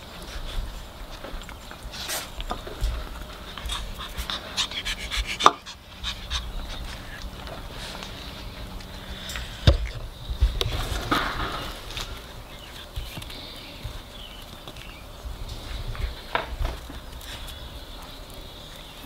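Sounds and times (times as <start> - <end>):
puppies panting: 0.0 - 19.0
puppies scuffling: 0.0 - 19.0.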